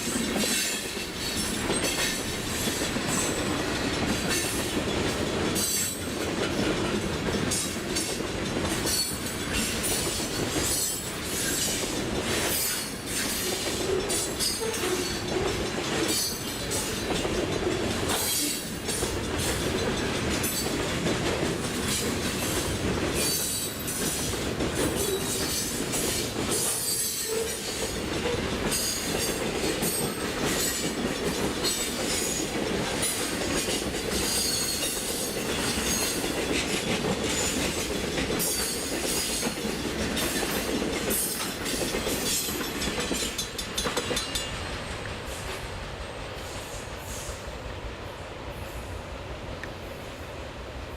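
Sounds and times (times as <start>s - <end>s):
train wheels clattering over rails: 0.0s - 47.7s.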